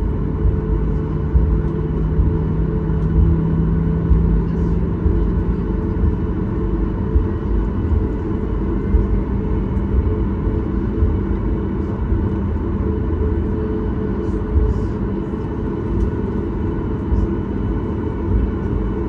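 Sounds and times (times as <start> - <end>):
airplane cabin engine drone: 0.0 - 19.0
low hum: 0.0 - 19.0.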